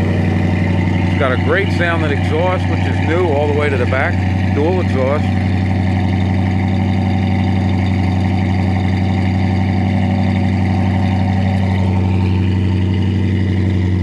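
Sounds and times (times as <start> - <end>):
car exhaust idling: 0.0 - 14.0.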